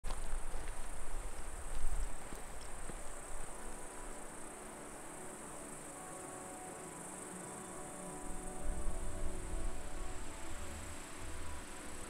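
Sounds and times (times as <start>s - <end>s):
insects chirring: 0.1s - 12.0s.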